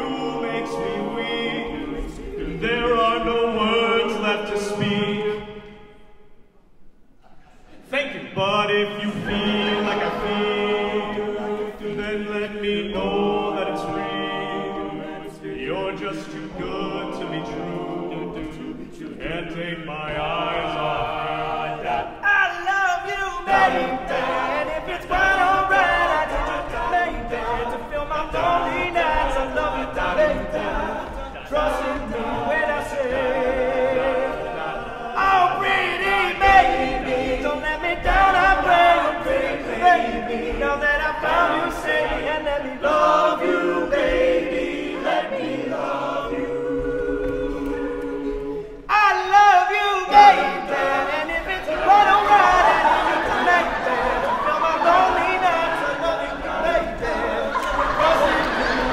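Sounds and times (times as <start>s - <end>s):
male a cappella group singing: 0.0s - 6.0s, 8.2s - 58.9s.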